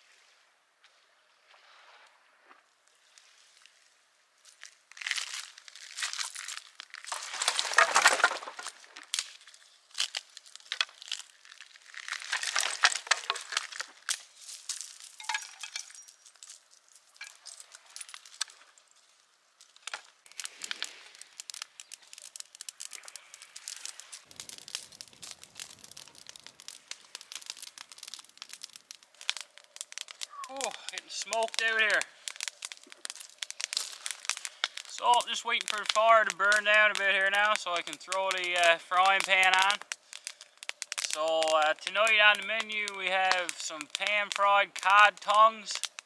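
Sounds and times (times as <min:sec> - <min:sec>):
fire crackling: 0:02.7 - 0:46.0
kindling crinkling and snapping: 0:02.9 - 0:46.0.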